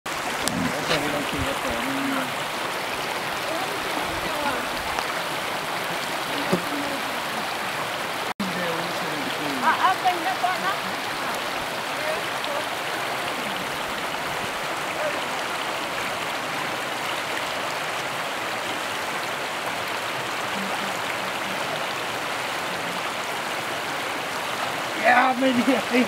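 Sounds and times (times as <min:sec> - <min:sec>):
stream water rushing: 0:00.1 - 0:26.0.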